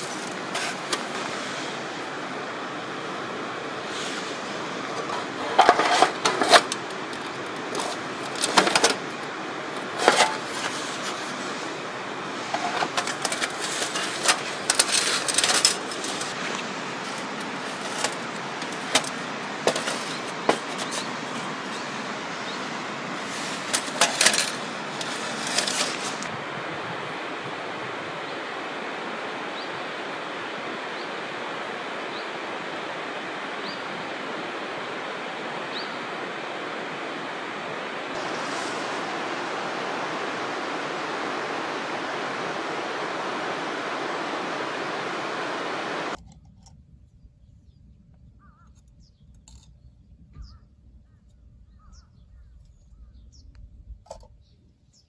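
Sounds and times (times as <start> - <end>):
steady rushing noise: 0.0 - 46.2.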